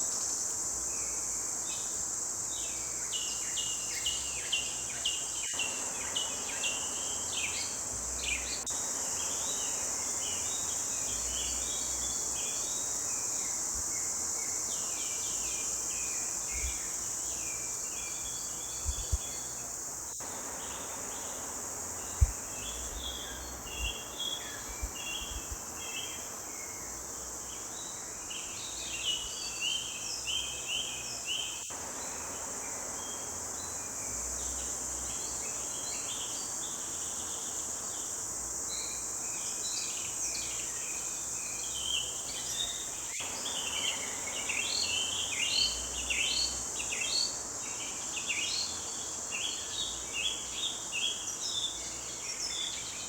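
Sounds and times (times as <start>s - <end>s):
high insect drone: 0.0s - 53.0s
songbirds chirping: 0.1s - 53.0s.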